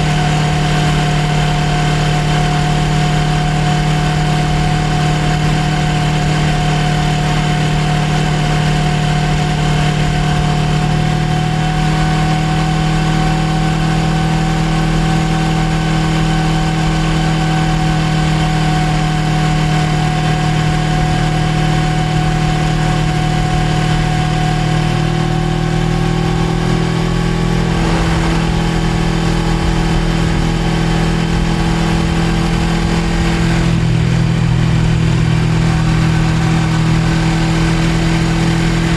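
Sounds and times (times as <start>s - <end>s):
motorcycle engine running steadily: 0.0s - 26.7s, 27.6s - 38.9s.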